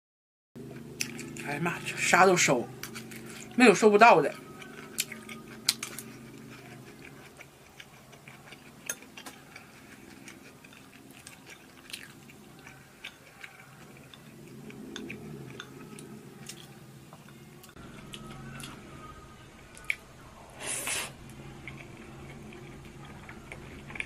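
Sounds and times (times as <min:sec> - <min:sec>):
chewing and mouth sounds: 0:00.6 - 0:02.1, 0:02.7 - 0:18.8, 0:20.9 - 0:24.0.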